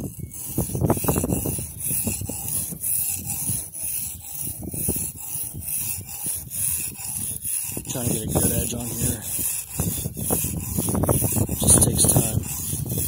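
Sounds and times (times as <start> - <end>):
knife blade scraping on whetstone: 0.0 - 13.0.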